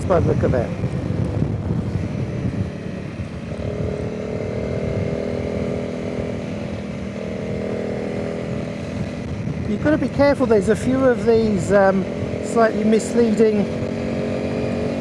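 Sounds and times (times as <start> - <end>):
motorcycle engine running: 0.0 - 15.0
wind noise rumble: 0.0 - 15.0.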